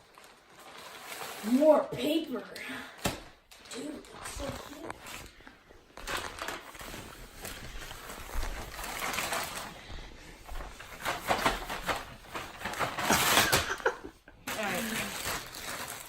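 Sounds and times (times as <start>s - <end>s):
packing paper rustling and crinkling: 0.0s - 16.0s.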